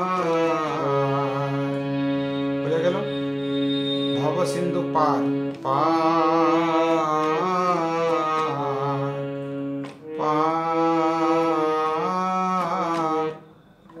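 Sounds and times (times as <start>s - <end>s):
man singing: 0.0s - 3.3s, 4.2s - 9.3s, 10.0s - 13.4s
harmonium melody: 0.0s - 14.0s.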